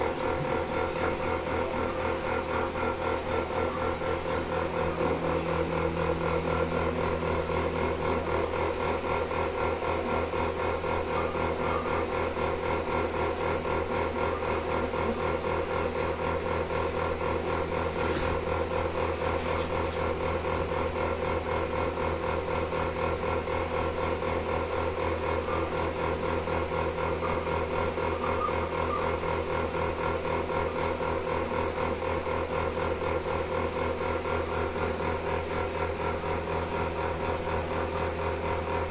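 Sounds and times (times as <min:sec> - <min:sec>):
milking machine pulsing hum: 0:00.0 - 0:38.9.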